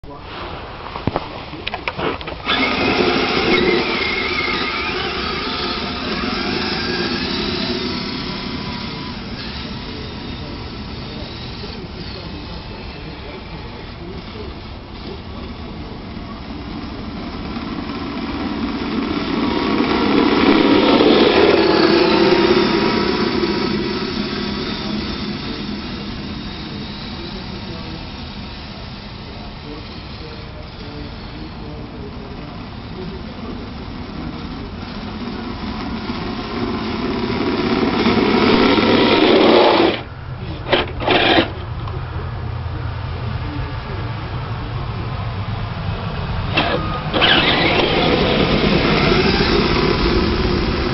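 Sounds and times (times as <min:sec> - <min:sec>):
radio-controlled vehicle motor: 0:01.8 - 0:42.0, 0:46.5 - 0:50.9.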